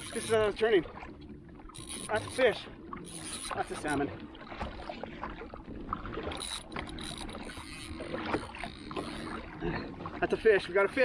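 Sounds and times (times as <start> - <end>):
water and wind hiss: 0.0 - 11.0.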